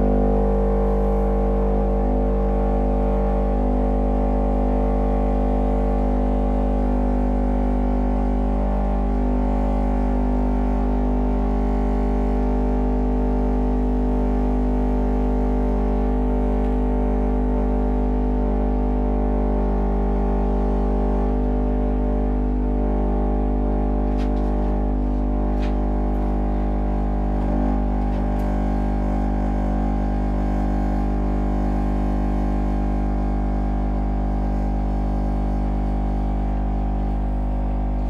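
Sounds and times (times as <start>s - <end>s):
subwoofer low test tone: 0.0s - 38.0s.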